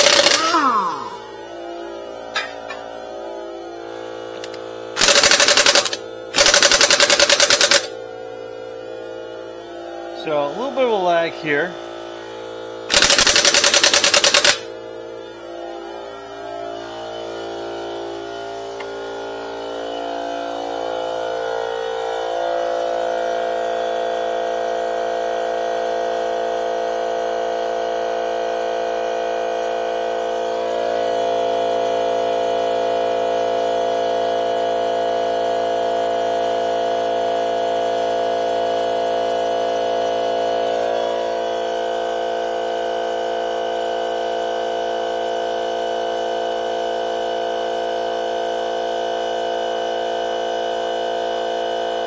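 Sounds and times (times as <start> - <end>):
air compressor motor hum: 0.0 - 52.0.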